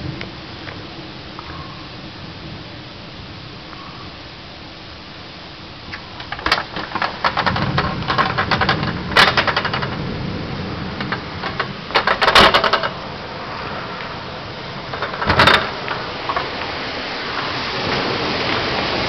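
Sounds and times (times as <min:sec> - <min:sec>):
low thunder rumble: 0:00.0 - 0:19.0
thunder crackling: 0:00.0 - 0:19.0.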